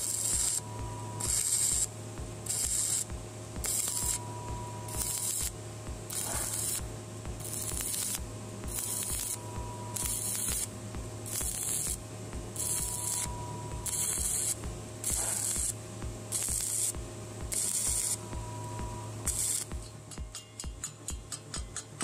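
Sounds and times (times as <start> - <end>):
welding arc hissing: 0.0 - 19.9.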